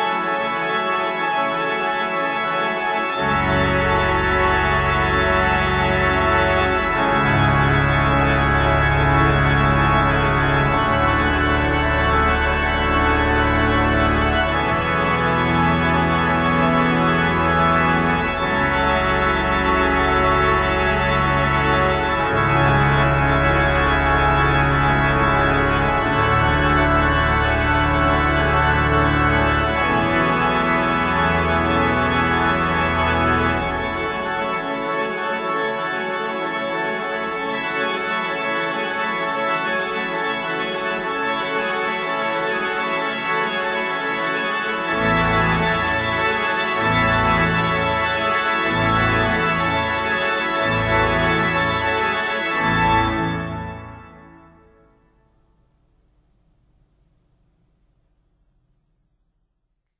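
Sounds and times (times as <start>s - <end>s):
pipe organ playing: 0.0s - 55.1s.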